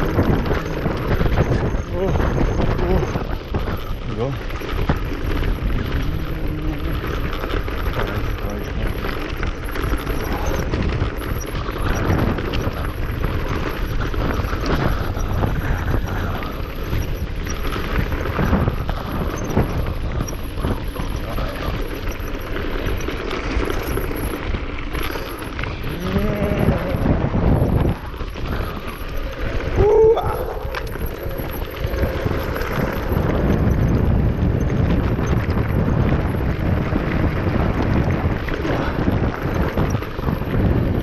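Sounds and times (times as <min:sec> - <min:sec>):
bike clattering: 0:00.0 - 0:41.0
tyres crunching over stones: 0:00.0 - 0:41.0
wind rumble on microphone: 0:00.0 - 0:41.0.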